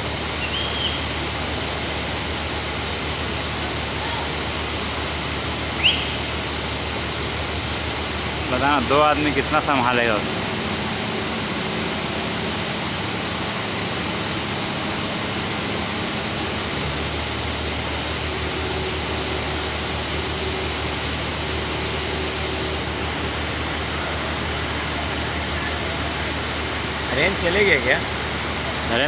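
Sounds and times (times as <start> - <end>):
crane diesel engine running: 0.0 - 29.0
hiss of site noise: 0.0 - 29.0.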